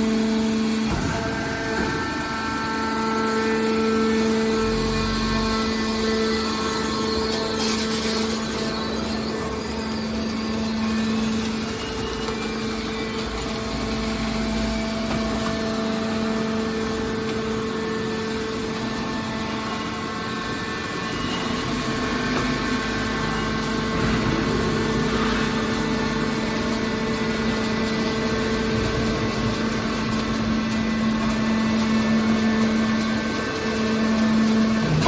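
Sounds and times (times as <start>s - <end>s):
hydraulic power unit humming: 0.0s - 35.0s.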